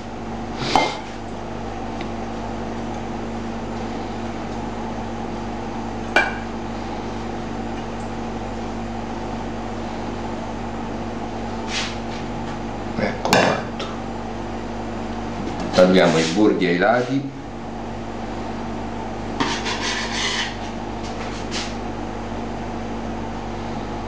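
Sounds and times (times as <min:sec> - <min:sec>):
kitchen machinery humming: 0:00.0 - 0:24.0.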